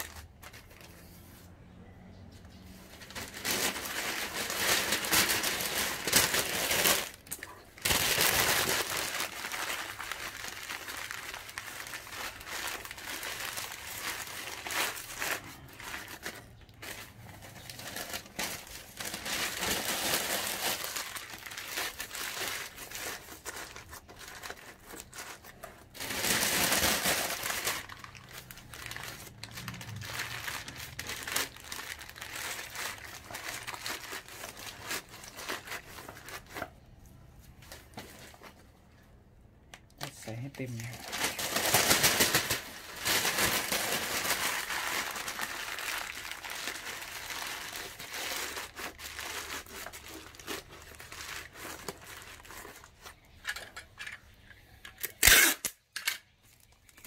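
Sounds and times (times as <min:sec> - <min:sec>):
paper rustling and crinkling: 0:00.0 - 0:01.6, 0:02.8 - 0:38.8, 0:40.0 - 0:54.4.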